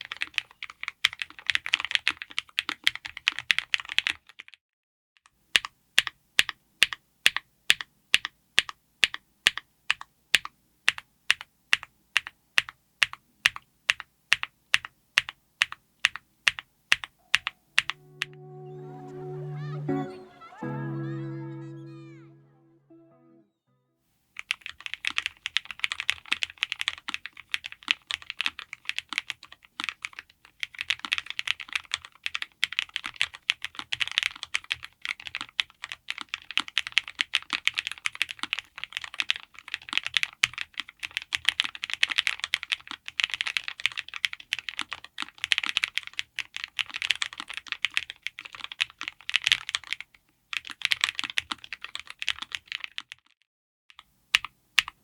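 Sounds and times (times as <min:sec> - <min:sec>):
fast typing on mechanical keyboard: 0:00.0 - 0:04.6, 0:05.6 - 0:18.0, 0:24.4 - 0:53.4, 0:54.0 - 0:55.0.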